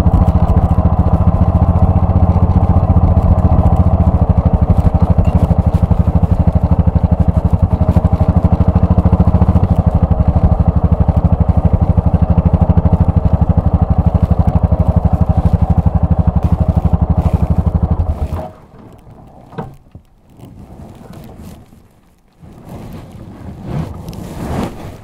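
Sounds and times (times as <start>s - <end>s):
single-cylinder engine running: 0.0s - 20.2s.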